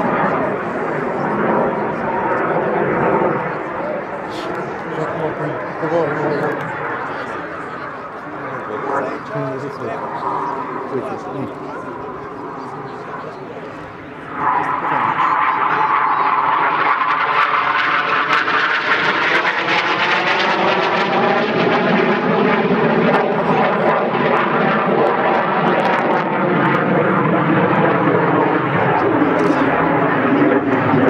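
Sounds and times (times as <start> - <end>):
jet roar passing overhead: 0.0 - 31.0.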